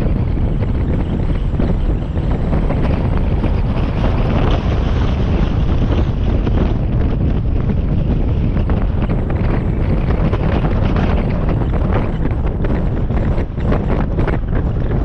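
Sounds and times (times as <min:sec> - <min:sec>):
road and engine noise: 0:00.0 - 0:15.0
wind buffeting microphone: 0:00.0 - 0:15.0.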